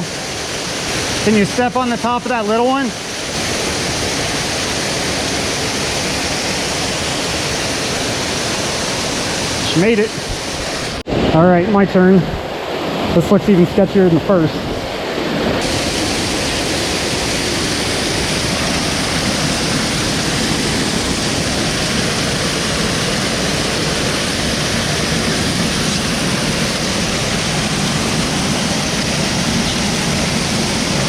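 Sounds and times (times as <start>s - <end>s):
waterfall and creek water rushing: 0.0s - 31.0s.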